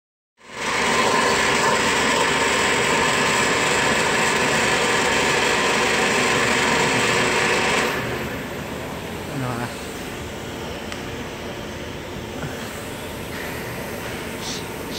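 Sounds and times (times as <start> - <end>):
vacuum pump rushing with hum: 0.4 - 14.9.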